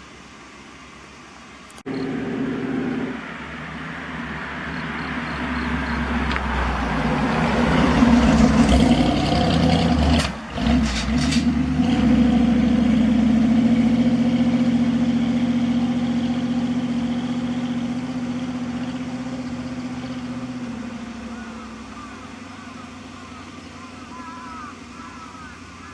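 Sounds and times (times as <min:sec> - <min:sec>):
truck diesel engine driving past: 0:01.9 - 0:25.9.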